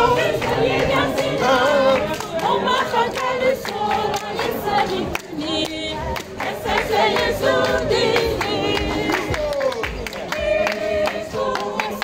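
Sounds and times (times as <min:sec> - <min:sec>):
choir singing a church song: 0:00.0 - 0:09.4, 0:10.2 - 0:12.0
hand-clapping: 0:00.2 - 0:12.0.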